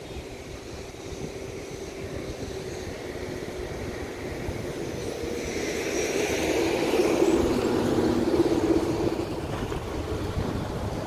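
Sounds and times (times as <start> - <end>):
passing vehicle engine hum: 0.0 - 11.0
steady rushing noise: 0.0 - 11.0.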